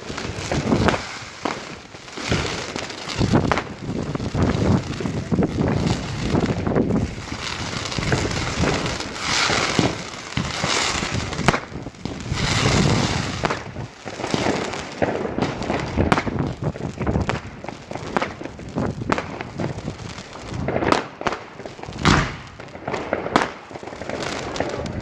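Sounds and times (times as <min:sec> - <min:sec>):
fireworks bangs and crackling: 0:00.0 - 0:25.0
fireworks hissing: 0:00.0 - 0:25.0.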